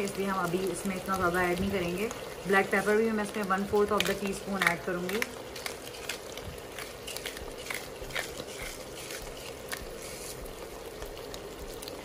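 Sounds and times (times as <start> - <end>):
chicken frying in a pan: 0.0 - 12.0.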